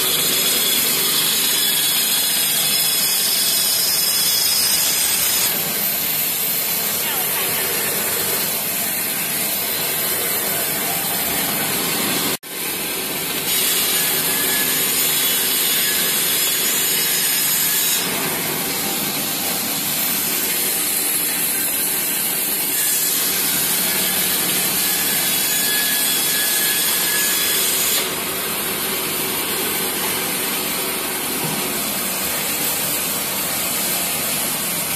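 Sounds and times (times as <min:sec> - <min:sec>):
metal shredder cutting steel: 0:00.0 - 0:34.9.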